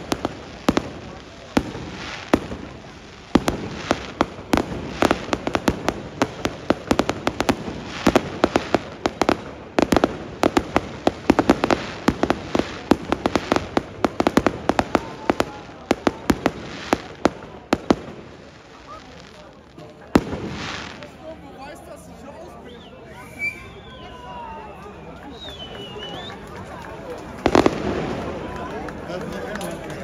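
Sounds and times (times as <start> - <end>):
fireworks bangs and crackles: 0.0 - 22.4, 25.2 - 30.0.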